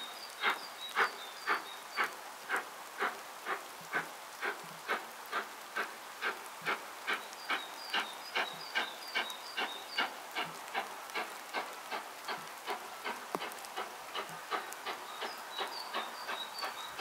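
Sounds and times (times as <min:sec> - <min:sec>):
hiss of steam: 0:00.0 - 0:17.0.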